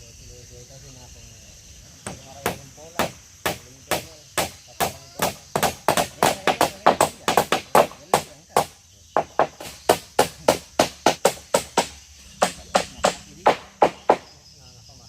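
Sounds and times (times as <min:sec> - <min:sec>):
hammer striking nails into wood: 0:02.0 - 0:14.3.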